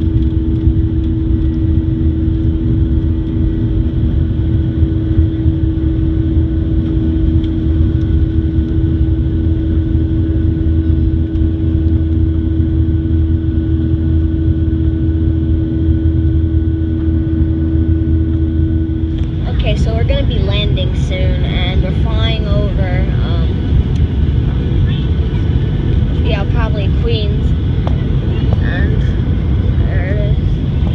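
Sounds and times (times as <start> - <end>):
jet engines and rushing air: 0.0 - 30.9
steady cabin hum: 0.0 - 30.9.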